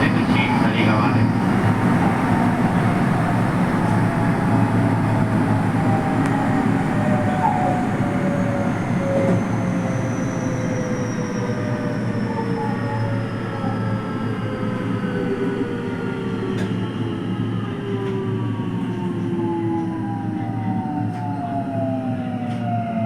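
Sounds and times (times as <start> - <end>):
train traction motors whining: 0.0 - 23.0
wheels rumbling on rail: 0.0 - 23.0.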